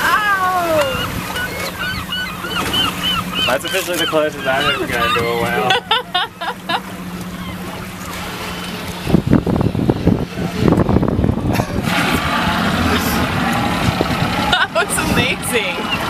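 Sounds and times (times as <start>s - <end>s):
low rumbling gusts: 0.0s - 3.5s, 4.4s - 16.0s
outboard motors idling: 0.0s - 16.0s
water noise: 0.0s - 16.0s.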